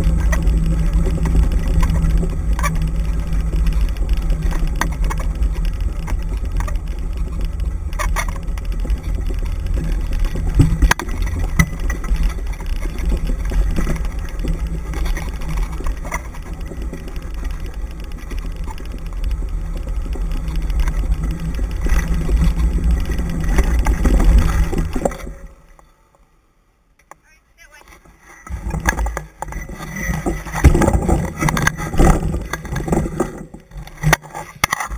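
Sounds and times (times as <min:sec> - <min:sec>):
wind buffeting camera: 0:00.0 - 0:25.8, 0:27.8 - 0:34.9
clicks and knocks from wheels: 0:00.0 - 0:26.2, 0:27.0 - 0:34.9
rig rolling over dirt trail: 0:00.0 - 0:34.9.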